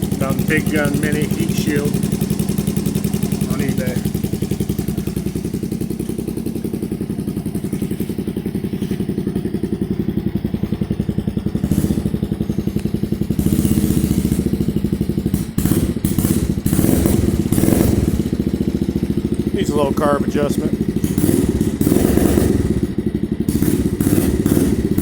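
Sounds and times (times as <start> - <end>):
small engine puttering: 0.0 - 25.0.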